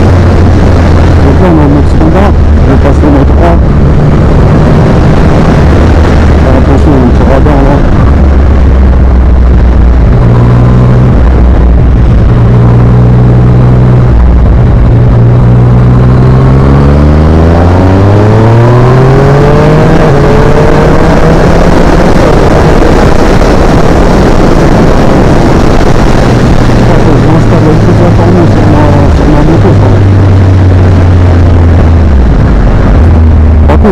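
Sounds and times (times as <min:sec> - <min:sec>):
motorcycle engine revving: 0:00.0 - 0:33.9
wind noise: 0:00.0 - 0:33.9.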